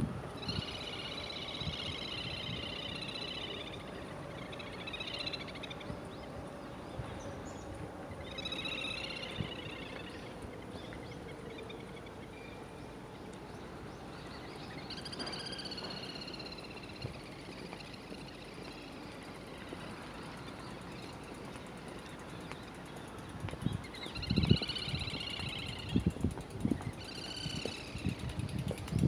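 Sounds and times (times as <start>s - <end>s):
small birds buzzy trills: 0.2s - 29.0s.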